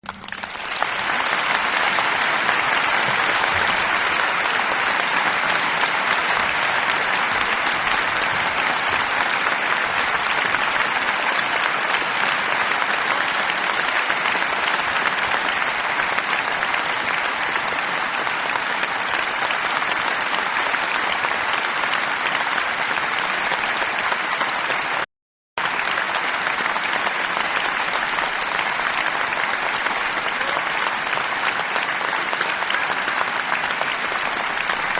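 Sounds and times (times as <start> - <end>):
crowd applause: 0.0 - 34.9.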